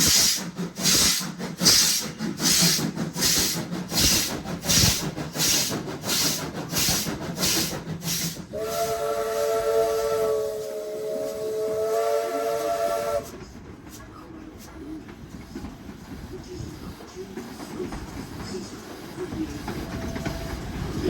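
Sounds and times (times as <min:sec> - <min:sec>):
steam locomotive chuffing: 0:00.0 - 0:21.0.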